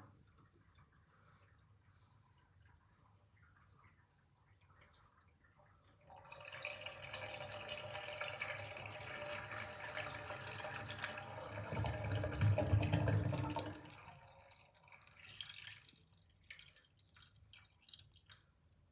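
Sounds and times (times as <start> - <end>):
water drips: 0.1 - 18.9
drain gurgling: 2.6 - 18.9.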